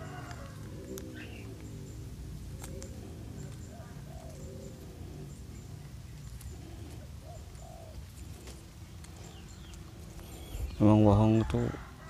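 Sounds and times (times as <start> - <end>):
dove cooing faintly: 0.0 - 12.0.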